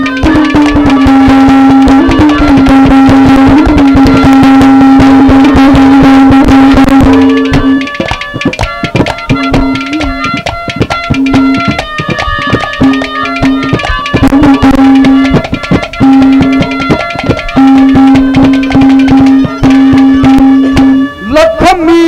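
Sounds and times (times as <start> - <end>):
fast hand drums: 0.0 - 21.2
melody instrument held notes: 0.0 - 22.0.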